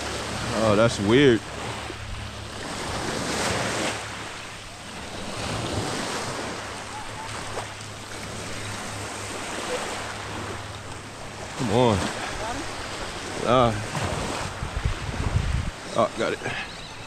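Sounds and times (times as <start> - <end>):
small waves washing on shore: 0.0 - 17.0
wind buffeting microphone: 0.0 - 17.0.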